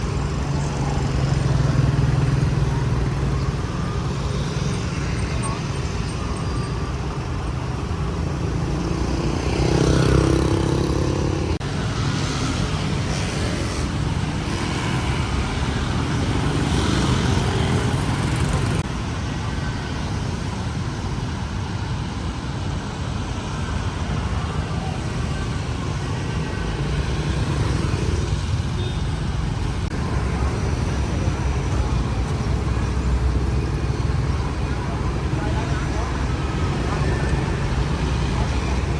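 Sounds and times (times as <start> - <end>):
passing cars and motorbikes: 0.0 - 38.9.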